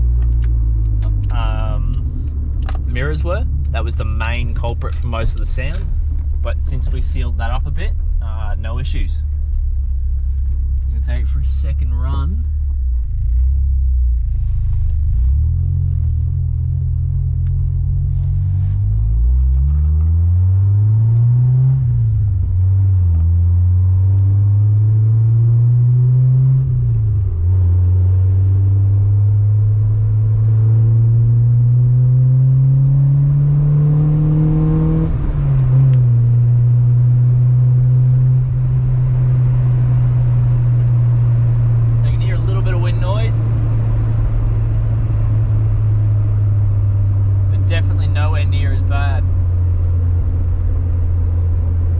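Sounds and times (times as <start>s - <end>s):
car engine accelerating through gears: 0.0s - 51.9s
road noise: 0.0s - 51.9s.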